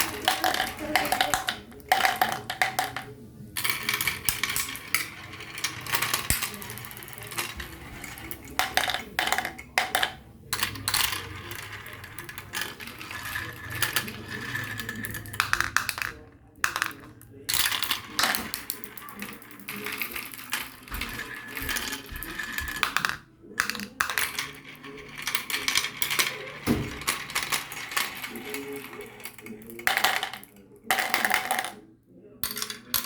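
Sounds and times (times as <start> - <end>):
marbles clattering down a marble run: 0.0 - 31.8, 32.4 - 33.0.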